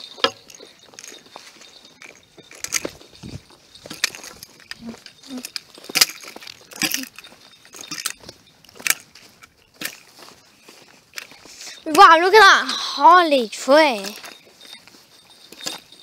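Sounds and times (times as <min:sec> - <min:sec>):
footsteps on twigs and leaves: 0:00.0 - 0:16.0.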